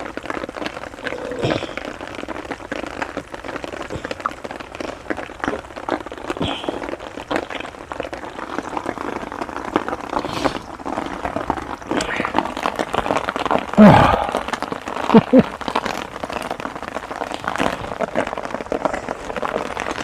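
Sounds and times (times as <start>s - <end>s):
heavy rain on a tarp: 0.0s - 20.0s.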